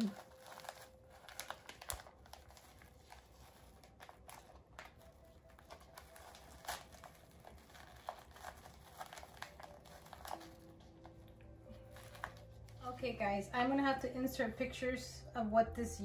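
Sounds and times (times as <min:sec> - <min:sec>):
plastic cup and bag crinkling: 0:00.0 - 0:13.0.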